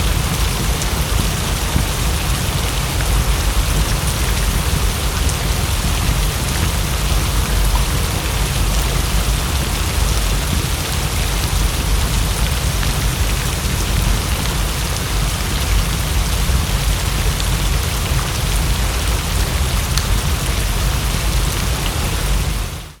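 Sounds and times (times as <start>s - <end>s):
raindrops ticking: 0.0s - 20.9s
heavy rain hissing: 0.0s - 23.0s.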